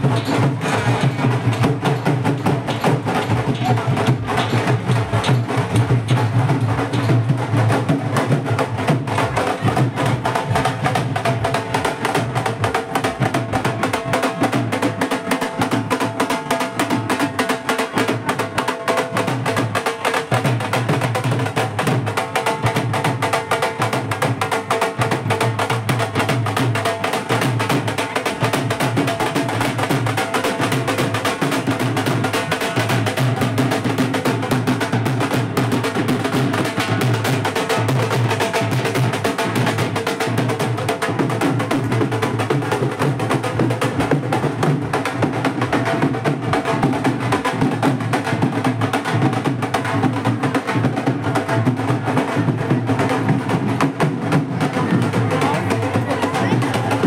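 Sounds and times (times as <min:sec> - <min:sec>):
drums beaten with sticks: 0:00.0 - 0:57.0.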